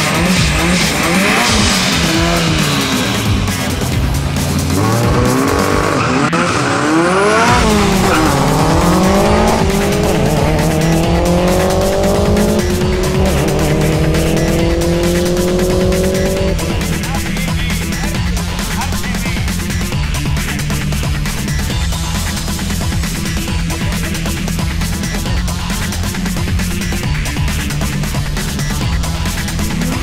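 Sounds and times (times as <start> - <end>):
music with stepping bass line: 0.0 - 6.2, 7.1 - 30.0
car engine revving: 0.0 - 30.0.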